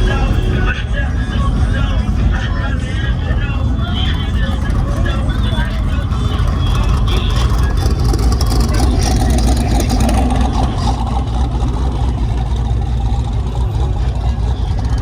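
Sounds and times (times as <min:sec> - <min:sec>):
background voices: 0:00.0 - 0:15.0
vehicle engine running: 0:00.0 - 0:15.0.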